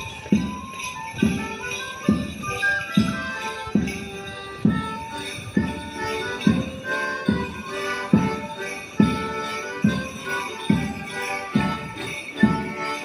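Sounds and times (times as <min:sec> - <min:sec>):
music with steady beat and melody: 0:00.0 - 0:13.0.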